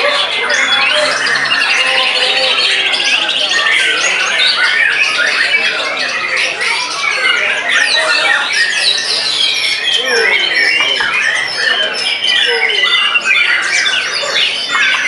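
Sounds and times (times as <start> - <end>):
birds singing in chorus: 0.0 - 15.0
rapid bird trill: 0.0 - 15.0.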